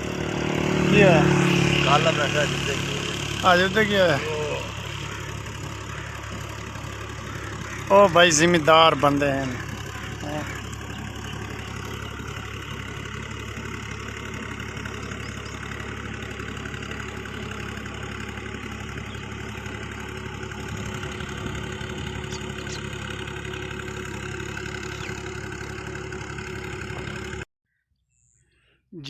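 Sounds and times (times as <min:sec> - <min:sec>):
tractor diesel engine running: 0:00.0 - 0:27.5.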